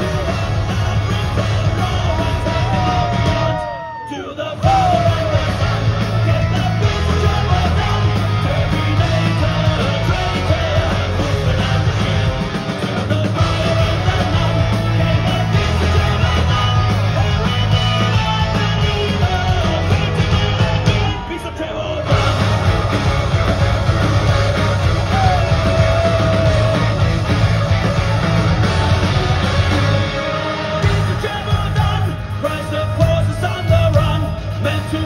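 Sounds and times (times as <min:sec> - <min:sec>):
man singing: 0:00.0 - 0:29.1, 0:30.3 - 0:35.0
live power metal band playing: 0:00.0 - 0:35.0.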